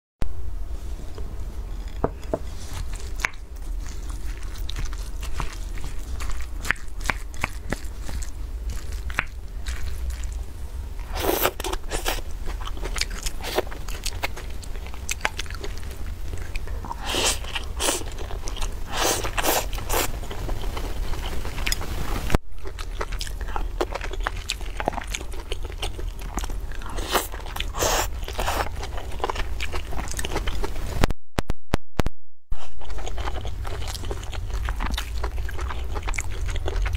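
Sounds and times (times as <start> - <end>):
steady low hum: 0.2 - 31.2, 32.6 - 36.9
chewing and crunchy bites: 1.2 - 30.8, 32.6 - 36.9.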